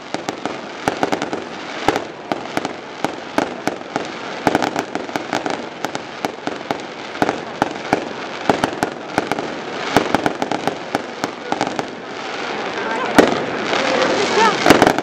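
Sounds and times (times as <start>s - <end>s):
burning fountains hissing: 0.0s - 15.0s
fireworks bangs: 0.0s - 15.0s.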